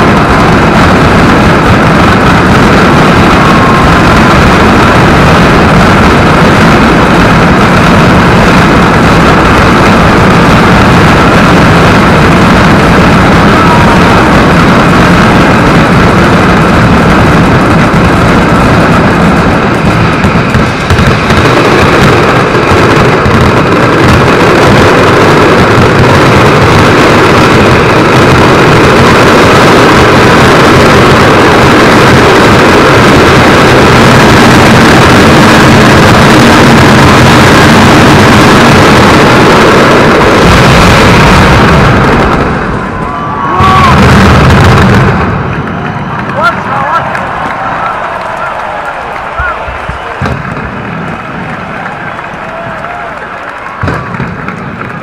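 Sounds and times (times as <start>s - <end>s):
firecrackers barrage: 0.0s - 55.0s.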